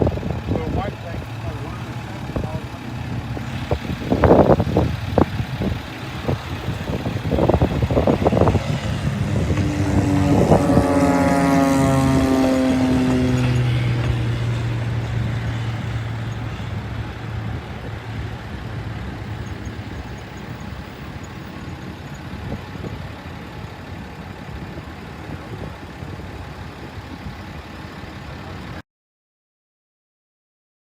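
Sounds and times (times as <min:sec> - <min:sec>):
military jet engine rushing: 0:00.0 - 0:26.7.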